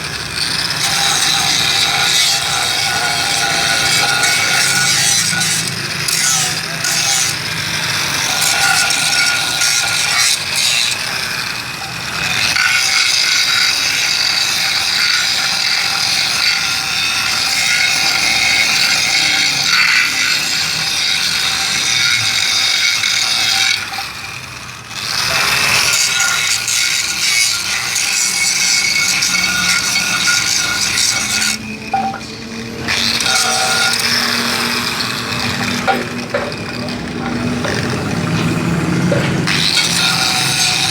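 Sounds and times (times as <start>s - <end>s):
grinder rasping on metal pan: 0.0s - 40.9s.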